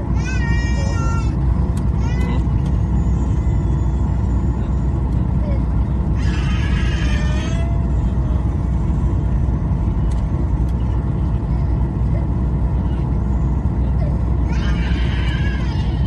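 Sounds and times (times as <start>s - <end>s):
airflow over fuselage: 0.0s - 16.0s
jet engines rumbling: 0.0s - 16.0s.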